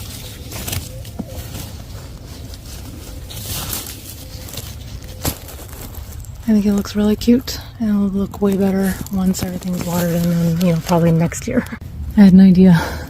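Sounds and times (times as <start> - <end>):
rustling and handling: 0.0 - 11.8
low outdoor rumble: 0.0 - 13.0.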